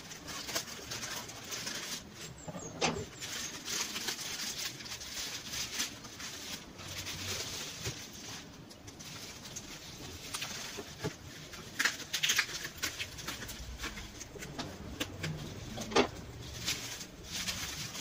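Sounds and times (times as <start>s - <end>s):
plastic mailer crinkling: 0.0s - 18.0s.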